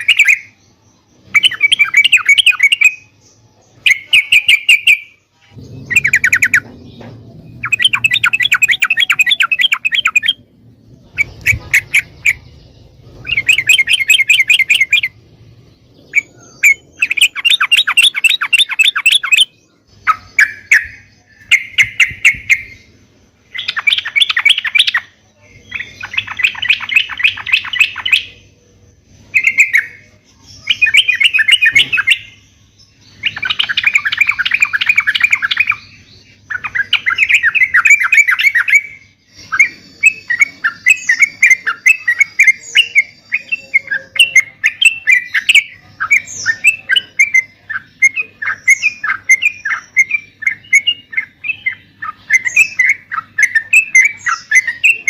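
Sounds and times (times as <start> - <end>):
bird singing rapid chattering phrases: 0.0 - 55.0.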